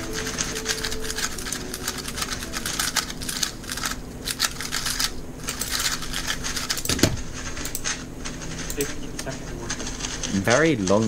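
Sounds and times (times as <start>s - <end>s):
rapid plastic clicks of puzzle cube: 0.0s - 11.0s.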